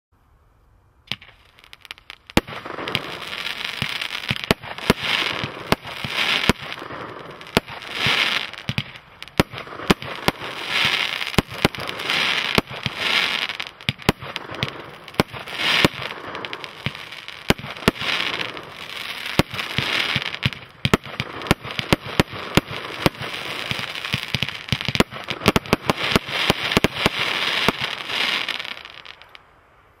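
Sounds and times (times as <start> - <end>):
firework shots and bursts: 1.1 - 29.3
firework hiss: 1.1 - 29.4.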